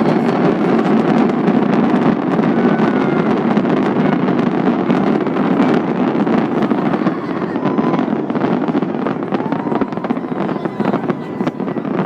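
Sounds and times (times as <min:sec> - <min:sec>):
fireworks crackling pops: 0:00.0 - 0:12.0
fireworks rumbling: 0:00.0 - 0:12.0.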